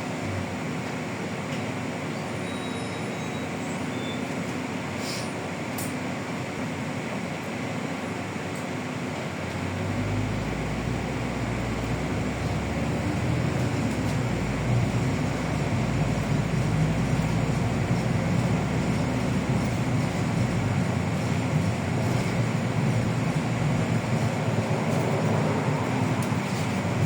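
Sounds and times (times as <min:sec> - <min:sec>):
bus diesel engine drone: 0:00.0 - 0:27.0
road noise: 0:00.0 - 0:27.0.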